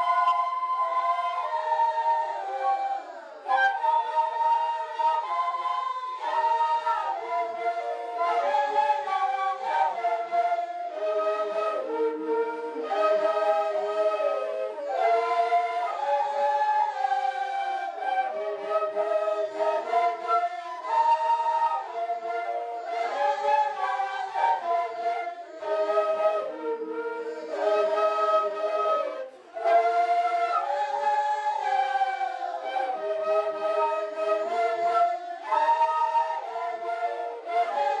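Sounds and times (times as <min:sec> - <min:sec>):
ensemble of flutes playing: 0:00.0 - 0:38.0.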